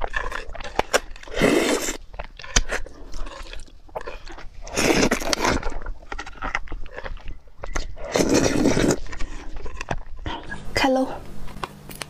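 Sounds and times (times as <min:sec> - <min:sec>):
noodles slurped: 0:00.0 - 0:10.6
wet chewing clicks: 0:00.0 - 0:10.7.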